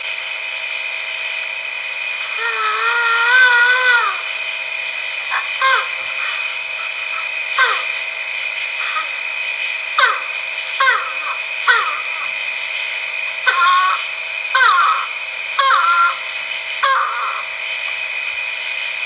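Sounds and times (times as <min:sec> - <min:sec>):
tape hiss and hum: 0:00.0 - 0:19.0
animal calls from small speaker: 0:01.8 - 0:19.0.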